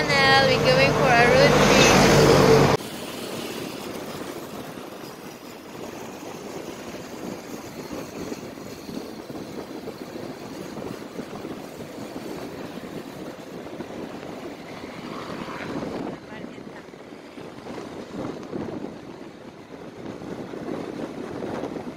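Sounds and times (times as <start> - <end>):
road noise: 0.0 - 21.9
wind buffeting microphone: 0.0 - 21.9.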